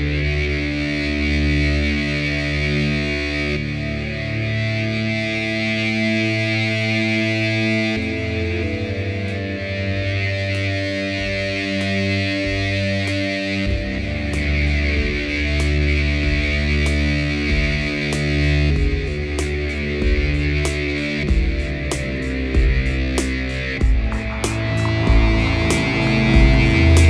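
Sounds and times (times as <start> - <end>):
dark ambient droning music: 0.0 - 27.0.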